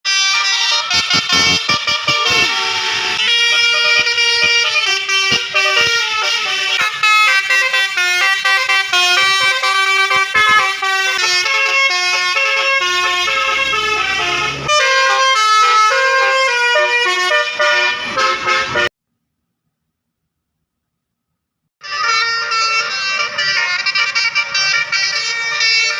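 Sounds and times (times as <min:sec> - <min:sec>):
bus air horn playing a tune: 0:00.1 - 0:18.9, 0:21.8 - 0:25.9.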